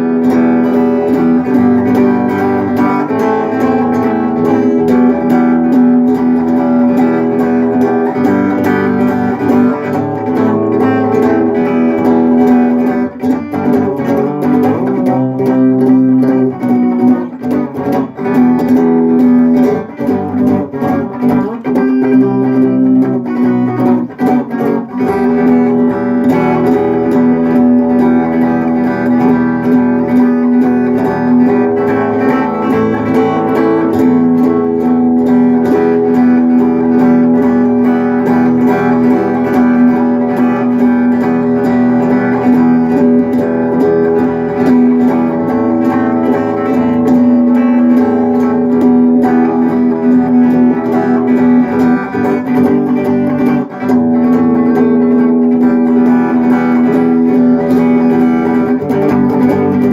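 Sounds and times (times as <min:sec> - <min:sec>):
guitar playing chords: 0:00.0 - 0:59.9.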